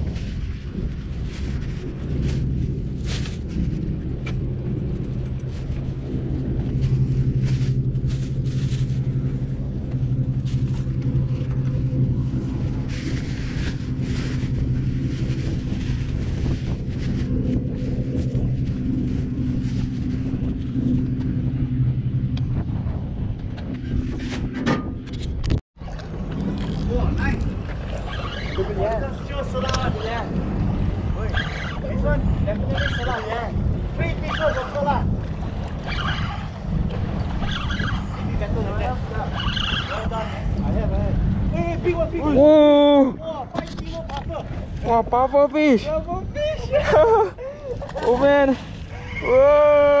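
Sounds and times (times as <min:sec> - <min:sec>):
steady low drone: 0:00.0 - 0:46.6.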